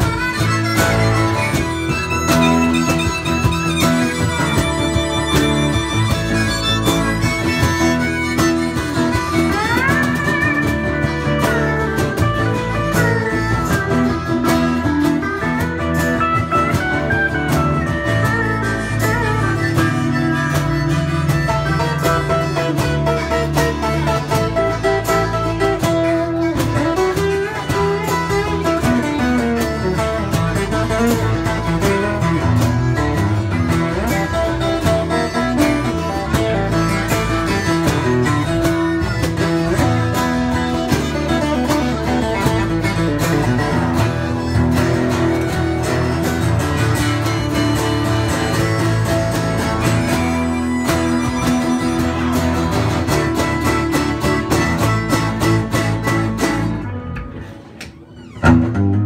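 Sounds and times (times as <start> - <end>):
electric bass: 0.0 - 59.0
harmonica: 0.0 - 59.0
pedal steel guitar: 0.0 - 59.0
strummed acoustic guitar: 0.0 - 59.0.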